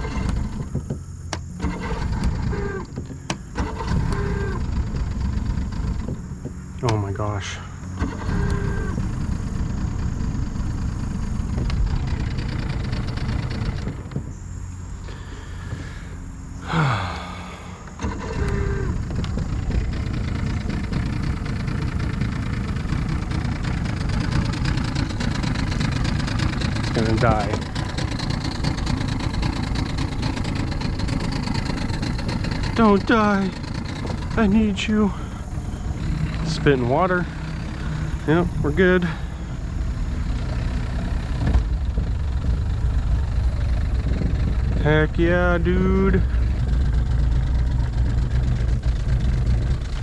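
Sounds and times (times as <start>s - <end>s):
outboard motor running unevenly: 0.0s - 50.0s.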